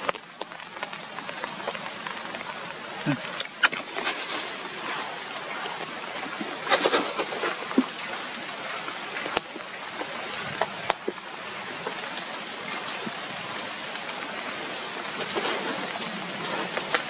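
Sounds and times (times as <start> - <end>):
rain on leaves and ground: 0.0 - 17.0
rustle: 0.0 - 17.0.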